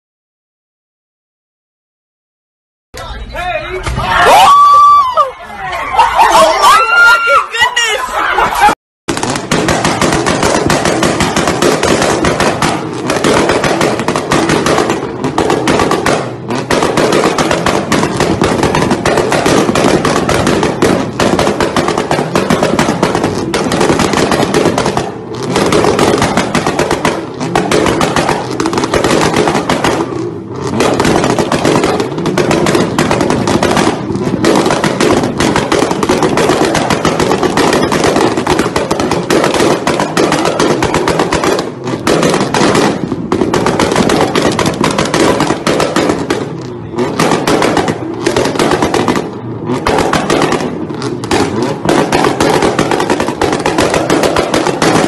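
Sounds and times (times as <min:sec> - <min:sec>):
car exhaust pops and bangs: 0:09.8 - 0:55.0.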